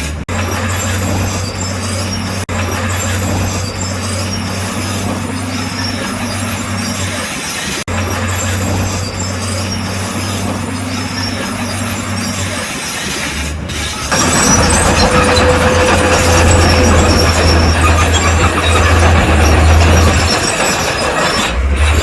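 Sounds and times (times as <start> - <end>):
bulldozer engine humming: 0.0 - 22.0
steel tracks clanking and squealing: 0.0 - 22.0.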